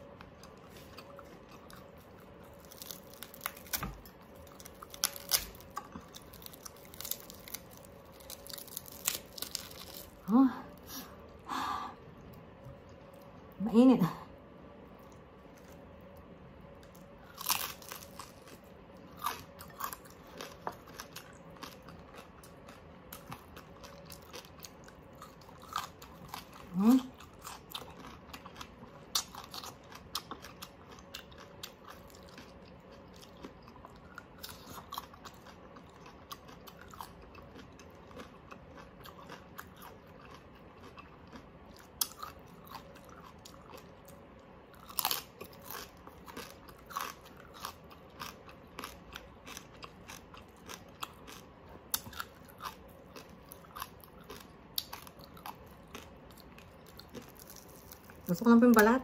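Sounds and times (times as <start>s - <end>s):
crunchy chewing: 0.0s - 11.2s, 14.8s - 58.8s.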